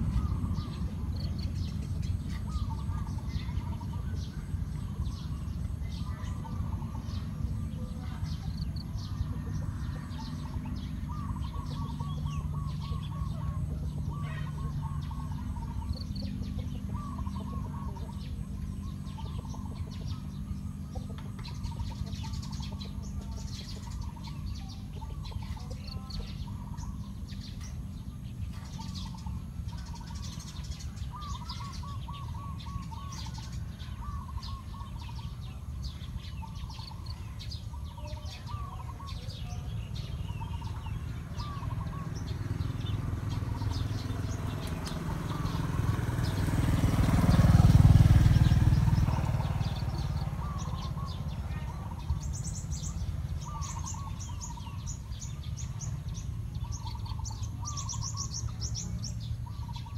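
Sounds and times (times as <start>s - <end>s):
steady low rumble: 0.0s - 59.7s
birds chirping: 0.0s - 59.9s.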